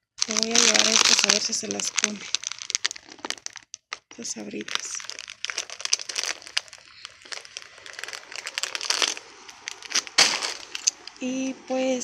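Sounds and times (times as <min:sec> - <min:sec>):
plastic chip bag crinkling: 0:00.1 - 0:11.2.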